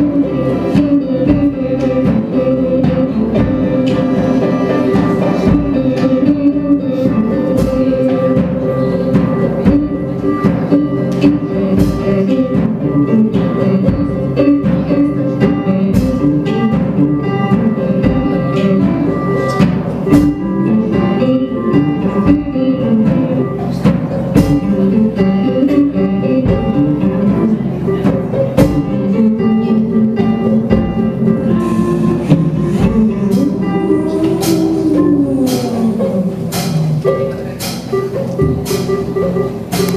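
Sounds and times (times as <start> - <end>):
band playing live: 0.0 - 39.9
drum hits: 0.0 - 39.9.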